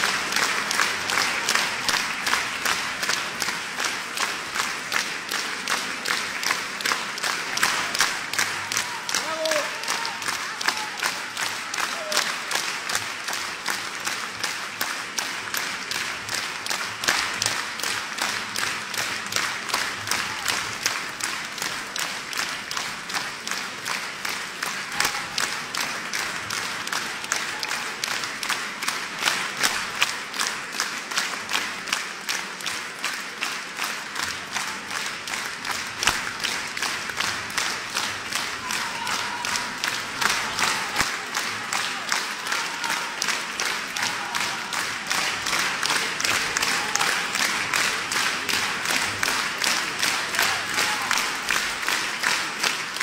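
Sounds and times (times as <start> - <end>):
audience applauding: 0.0 - 53.0
sharp claps close by: 0.0 - 53.0.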